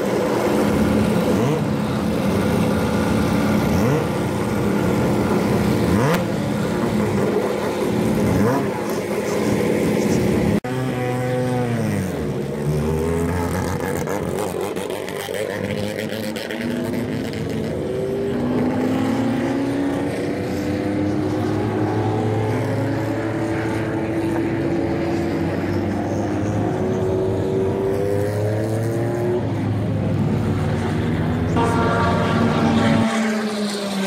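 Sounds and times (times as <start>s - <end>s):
race car engines at low revs: 0.0s - 34.0s.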